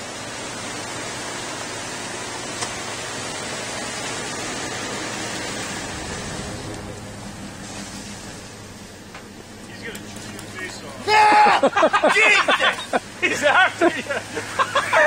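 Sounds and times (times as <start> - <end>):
truck driving on gravel: 0.0 - 15.0.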